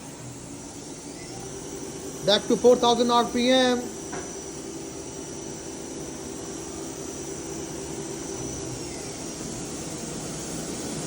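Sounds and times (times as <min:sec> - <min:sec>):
machine spindle humming and whining: 0:00.0 - 0:11.0.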